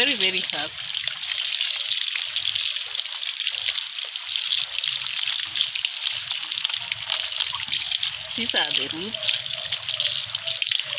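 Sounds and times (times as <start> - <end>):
water trickling: 0.0 - 10.9.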